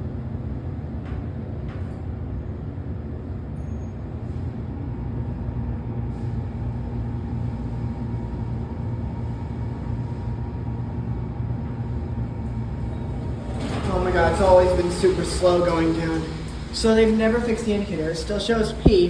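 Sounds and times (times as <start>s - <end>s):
elevator rumble and hum: 0.0s - 19.0s.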